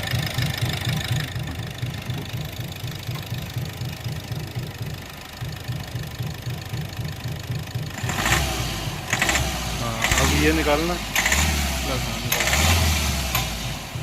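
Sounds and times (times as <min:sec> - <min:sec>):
engine idling with rhythmic knock: 0:00.0 - 0:14.0.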